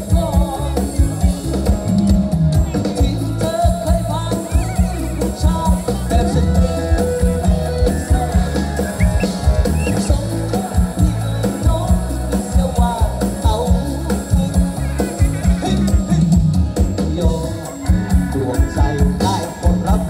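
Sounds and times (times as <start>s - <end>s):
drum kit steady beat: 0.0s - 20.0s
live band music: 0.0s - 20.0s.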